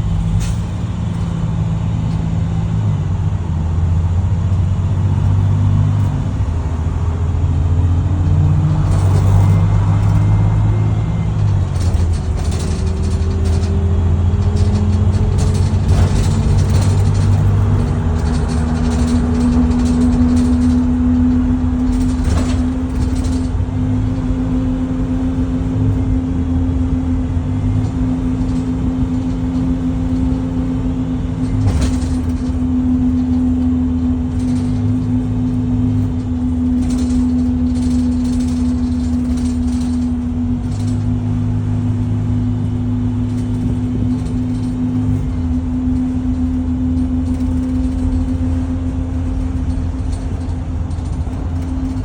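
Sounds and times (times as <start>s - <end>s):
rattles and knocks: 0.0s - 3.0s, 4.0s - 52.0s
bus axle whine: 0.0s - 52.0s
drivetrain and road rumble: 0.0s - 52.0s.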